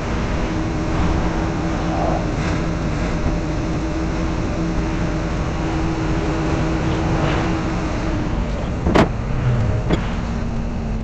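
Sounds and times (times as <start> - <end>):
heavy machinery engine hum: 0.0 - 11.0.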